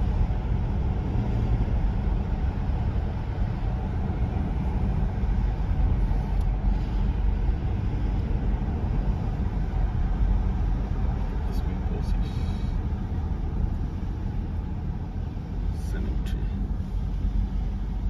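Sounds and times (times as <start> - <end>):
car engine hum: 0.0 - 18.0.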